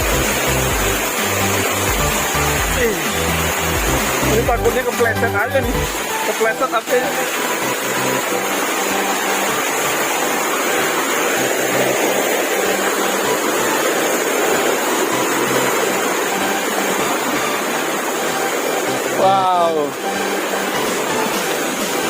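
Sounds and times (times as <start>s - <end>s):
waterfall rushing over rock: 0.0s - 22.0s.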